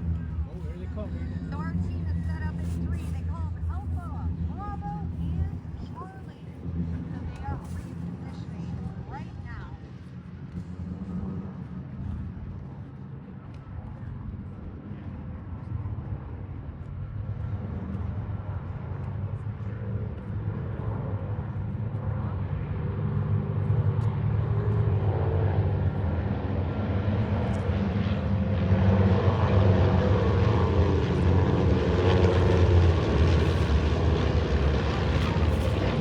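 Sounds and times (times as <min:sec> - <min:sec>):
airplane engines droning overhead: 0:00.0 - 0:36.0.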